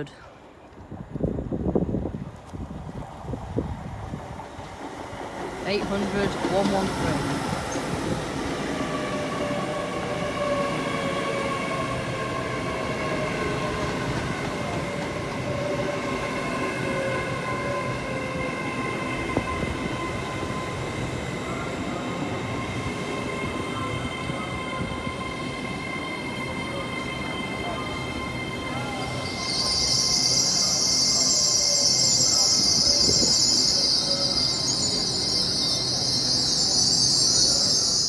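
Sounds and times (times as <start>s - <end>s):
train rumble: 0.0s - 38.0s
train whine: 0.0s - 38.0s.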